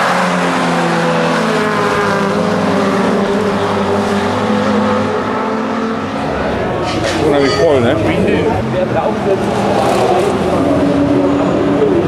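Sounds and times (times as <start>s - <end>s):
race cars passing by: 0.0s - 12.0s.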